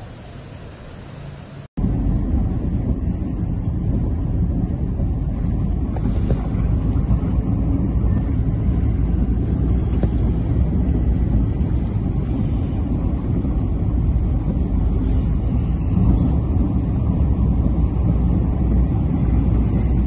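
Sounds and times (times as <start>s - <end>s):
wind buffeting microphone: 1.8s - 20.0s.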